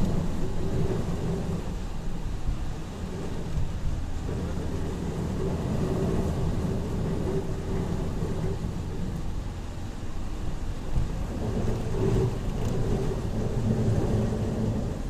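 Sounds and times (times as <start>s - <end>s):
low rumble: 0.0s - 15.0s
steady rain: 0.0s - 15.0s.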